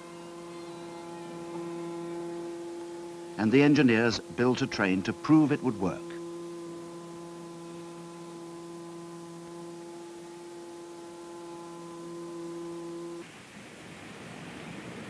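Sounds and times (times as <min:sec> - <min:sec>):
steady pitched hum: 0:00.0 - 0:15.0.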